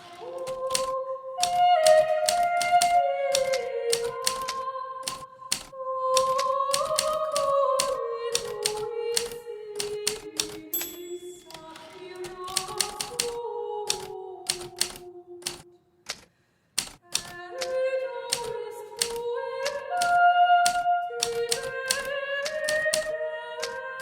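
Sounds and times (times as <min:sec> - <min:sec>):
typewriter keys clicking: 0:00.0 - 0:24.0.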